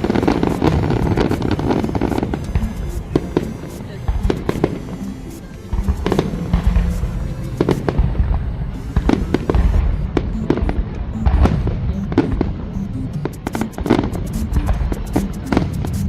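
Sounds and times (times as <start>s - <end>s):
fireworks cracking and booming: 0.0s - 16.0s
music: 0.0s - 16.0s.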